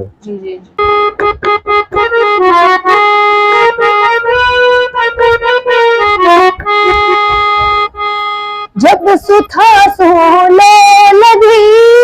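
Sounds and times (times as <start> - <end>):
harmonium melody: 0.0 - 11.8.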